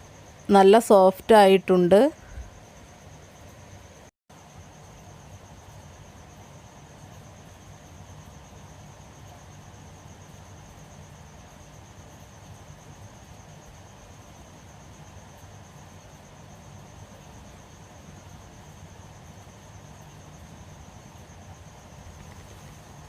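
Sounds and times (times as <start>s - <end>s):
cricket trilling: 0.0s - 23.0s
low hum and hiss: 0.0s - 23.0s.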